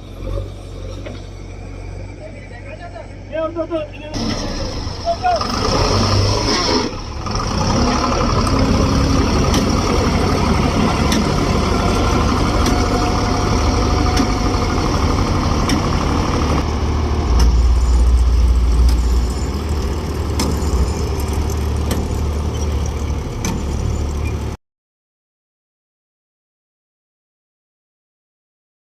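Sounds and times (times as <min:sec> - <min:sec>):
heavy diesel engines running: 0:00.0 - 0:24.6.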